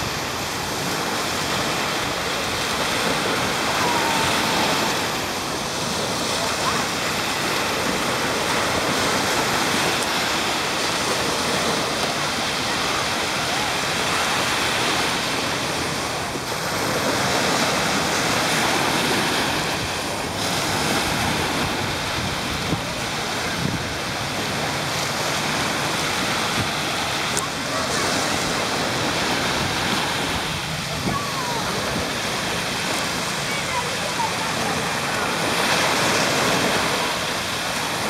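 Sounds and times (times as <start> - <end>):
waves washing up sand: 0.0 - 38.0
wind buffeting microphone: 0.0 - 38.0.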